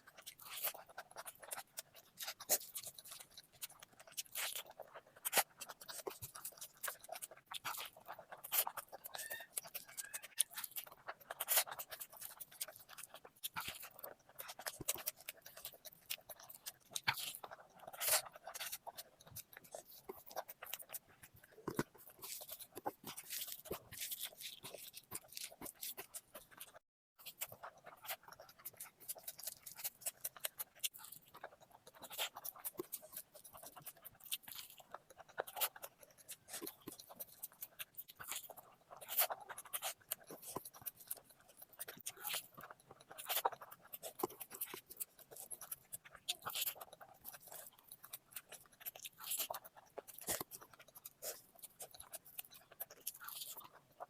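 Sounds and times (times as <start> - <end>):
person chewing and lip smacking: 0.0 - 54.0.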